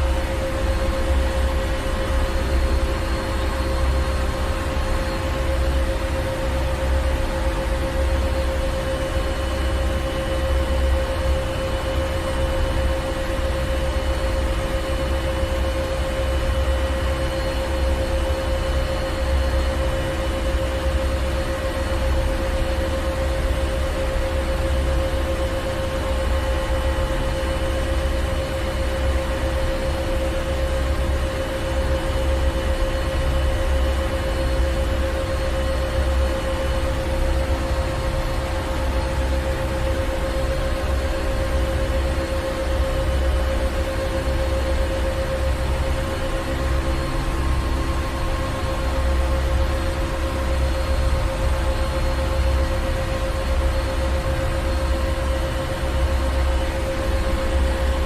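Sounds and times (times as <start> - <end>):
constant machinery hum: 0.0 - 58.0.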